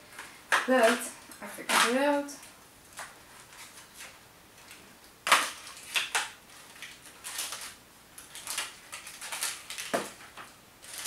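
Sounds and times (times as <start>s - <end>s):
plastic wrapper crinkling: 0.1s - 11.0s.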